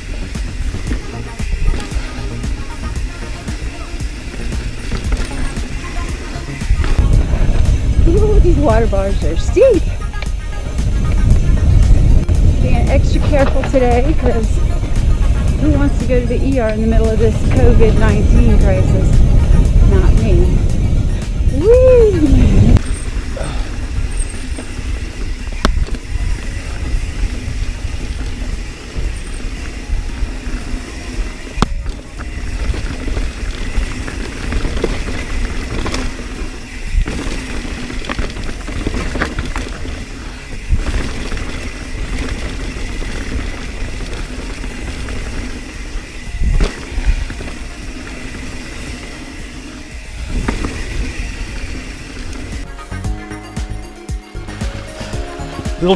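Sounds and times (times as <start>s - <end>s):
wind rumble on microphone: 0.0s - 52.7s
tyre noise over dirt: 0.0s - 53.2s
bike clacking and rattling: 0.0s - 53.9s.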